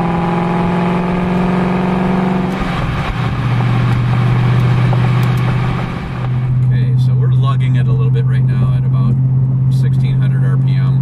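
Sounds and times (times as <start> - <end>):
car engine humming: 0.0 - 11.0
exhaust drone: 0.0 - 11.0.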